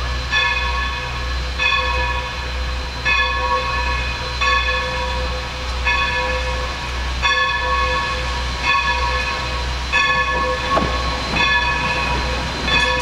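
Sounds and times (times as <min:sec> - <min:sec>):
locomotive bell ringing: 0:00.0 - 0:13.0
steam locomotive rumble: 0:00.0 - 0:13.0.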